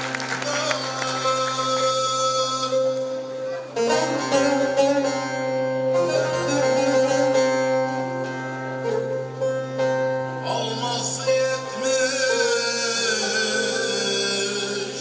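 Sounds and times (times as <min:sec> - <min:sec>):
plucked long-necked lute melody: 0:00.0 - 0:15.0.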